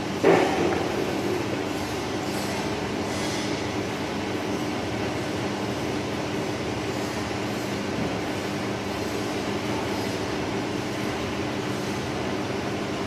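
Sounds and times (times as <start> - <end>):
machine rollers humming: 0.0 - 13.0.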